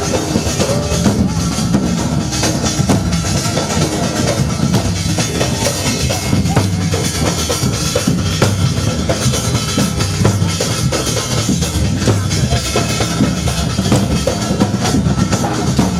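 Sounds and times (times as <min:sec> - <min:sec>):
loud drum music: 0:00.0 - 0:15.9.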